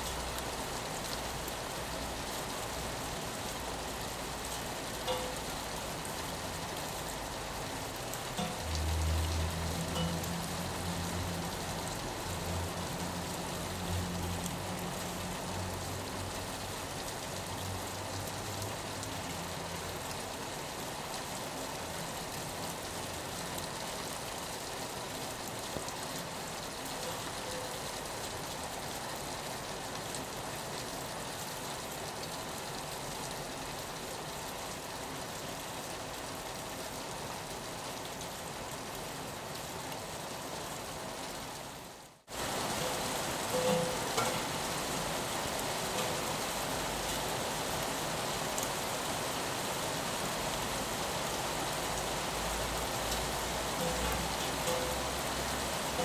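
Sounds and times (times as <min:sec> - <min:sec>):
rain on a window: 0:00.0 - 0:56.0.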